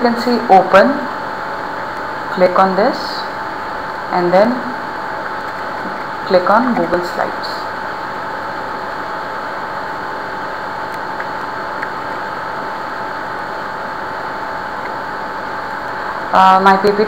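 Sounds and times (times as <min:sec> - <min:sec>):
high-pitched hum: 0:00.0 - 0:17.0.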